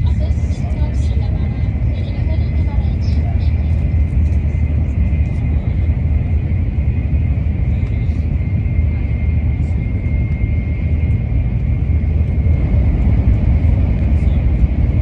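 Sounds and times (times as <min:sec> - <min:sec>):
train cabin low rumble: 0:00.0 - 0:15.0.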